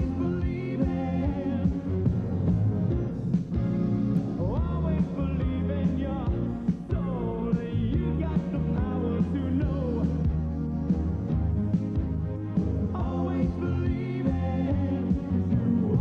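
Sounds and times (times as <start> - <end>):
sliding lead melody: 0.0 - 16.0
upbeat music with drum beat: 0.0 - 16.0.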